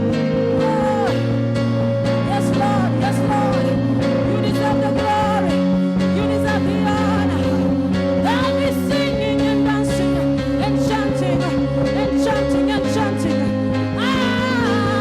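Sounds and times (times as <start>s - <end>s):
singing voices: 0.0s - 1.4s, 2.2s - 15.0s
sustained chords: 0.0s - 15.0s.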